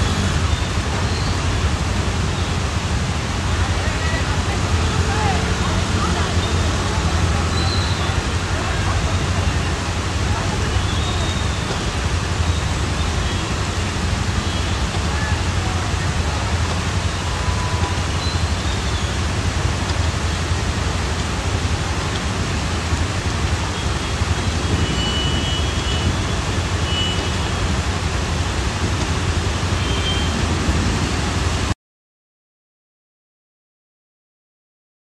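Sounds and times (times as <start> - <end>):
heavy rain pouring: 0.0 - 31.8.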